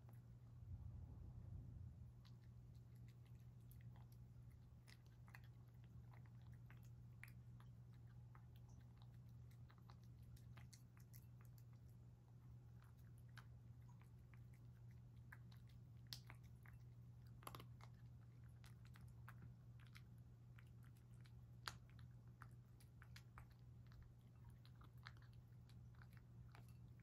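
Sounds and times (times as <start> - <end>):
cat chewing and crunching: 0.0 - 27.0
steady low hum: 0.0 - 27.0.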